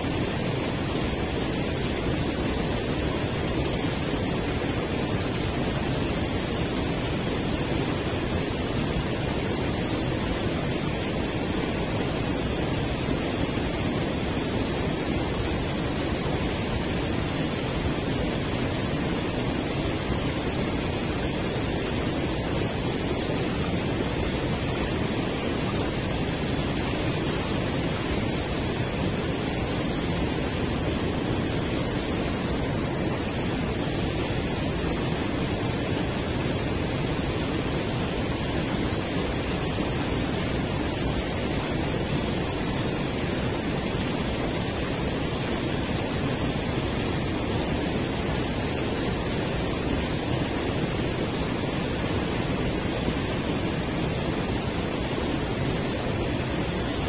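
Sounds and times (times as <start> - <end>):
river water rushing over weir: 0.0 - 57.0.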